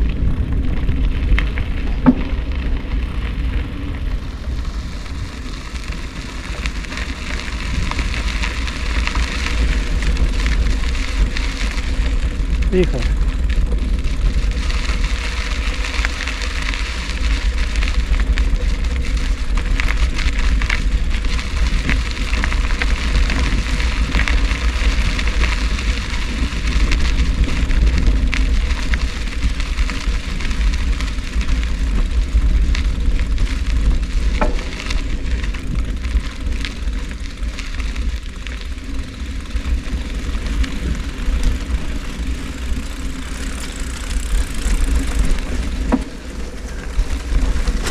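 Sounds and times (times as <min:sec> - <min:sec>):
bicycle tyres rolling on track: 0:00.0 - 0:47.9
wind buffeting microphone: 0:00.0 - 0:47.9.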